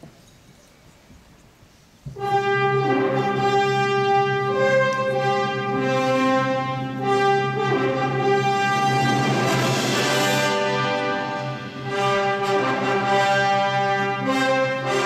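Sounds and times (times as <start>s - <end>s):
orchestral music with brass chords: 2.2s - 15.0s.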